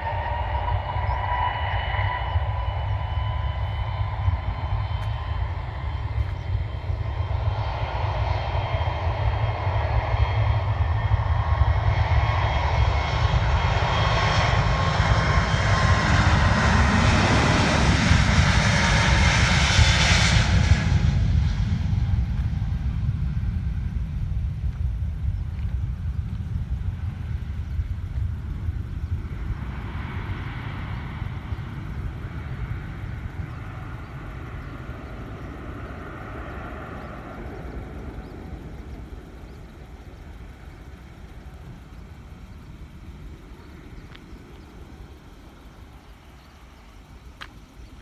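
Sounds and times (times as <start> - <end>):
jet engines rumbling: 0.0 - 48.0.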